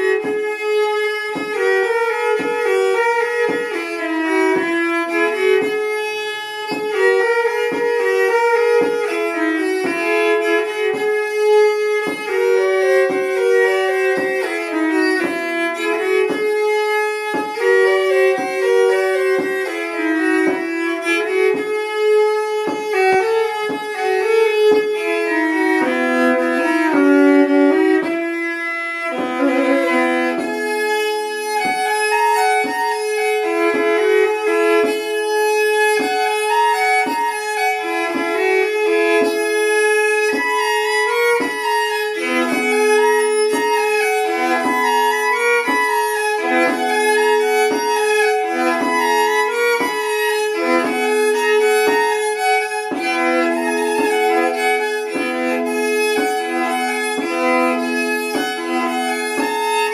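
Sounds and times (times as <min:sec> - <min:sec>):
fiddle playing folk tune: 0:00.0 - 0:59.9
soft foot taps: 0:00.1 - 0:59.9.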